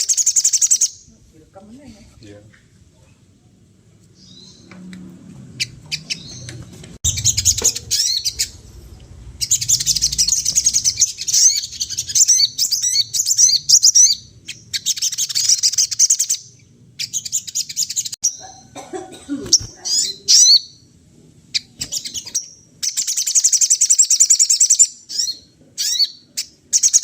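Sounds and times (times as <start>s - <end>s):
bird twittering song: 0.0s - 1.2s, 4.1s - 4.8s, 5.6s - 18.7s, 19.5s - 20.9s, 21.5s - 27.0s.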